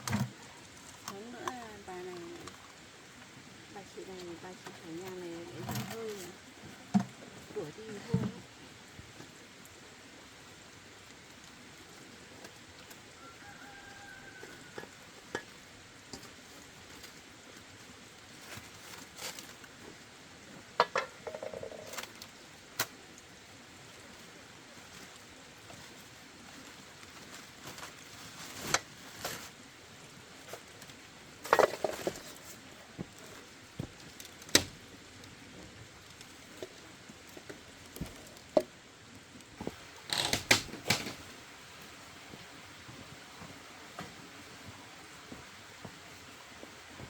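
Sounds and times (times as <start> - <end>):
steady low hiss: 0.0 - 47.0.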